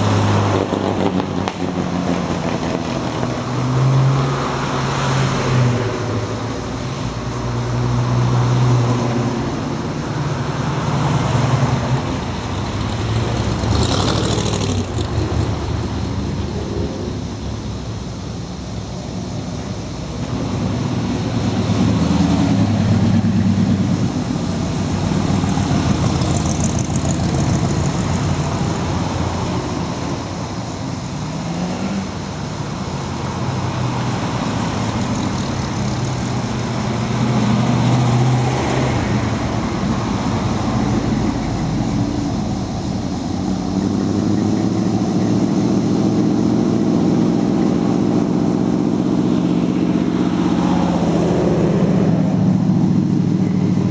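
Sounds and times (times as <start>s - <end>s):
car engines running: 0.0s - 53.9s.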